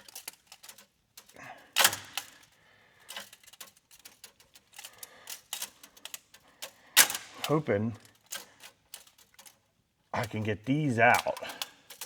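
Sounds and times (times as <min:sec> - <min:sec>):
metal tools clinking and knocking: 0:00.0 - 0:12.0.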